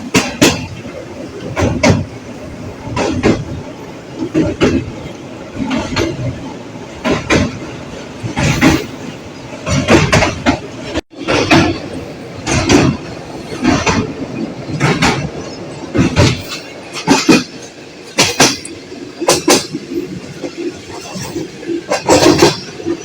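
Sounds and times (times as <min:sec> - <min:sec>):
train running rumble: 0:00.0 - 0:23.0
train wheels clattering over rail joints: 0:00.0 - 0:23.0.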